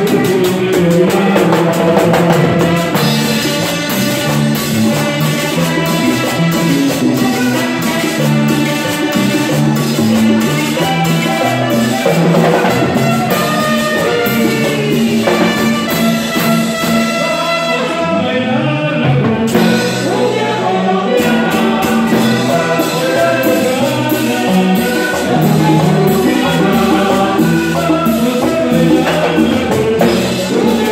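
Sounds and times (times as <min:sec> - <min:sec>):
salsa music with horns: 0:00.0 - 0:30.9.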